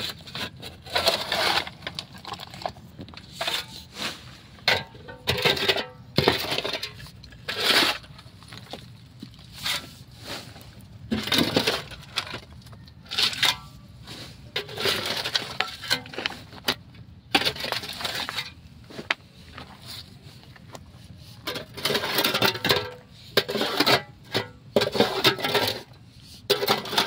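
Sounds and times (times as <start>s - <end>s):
rubble scraping and crumbling: 0.0s - 27.0s.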